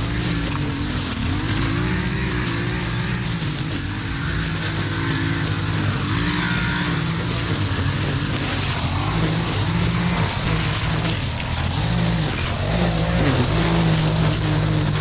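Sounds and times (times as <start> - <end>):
string trimmer engine running: 0.0 - 15.0.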